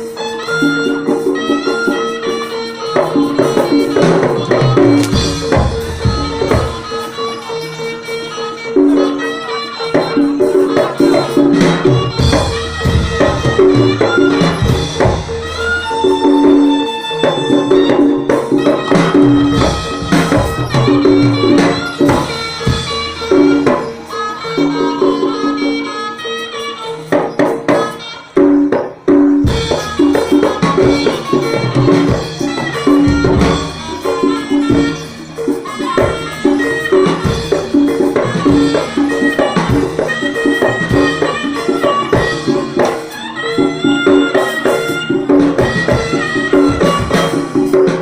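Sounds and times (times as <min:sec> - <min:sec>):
drums: 0:00.0 - 0:48.0
high melody line: 0:00.0 - 0:48.0
ringing pitched percussion: 0:00.0 - 0:48.0.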